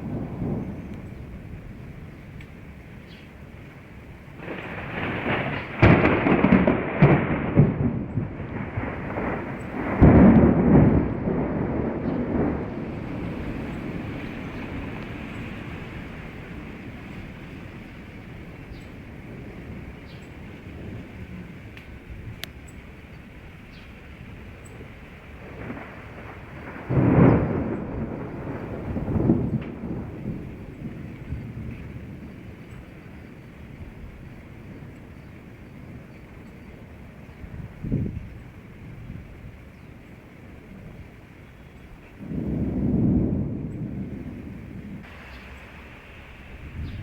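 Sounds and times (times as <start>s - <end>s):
rain hiss: 0.0s - 47.0s
rolling thunder: 0.0s - 47.0s.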